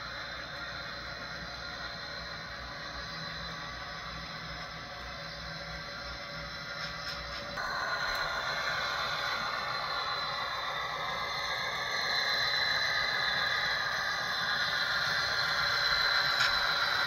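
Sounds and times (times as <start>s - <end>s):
model train whirring and rattling: 0.0s - 17.0s
thin high whine: 0.0s - 17.0s.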